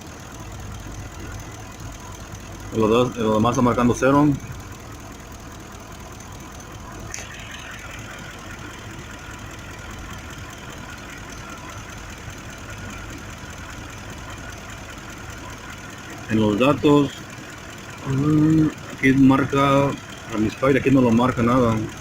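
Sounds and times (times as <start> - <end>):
truck engine idling with misfire: 0.0 - 22.0.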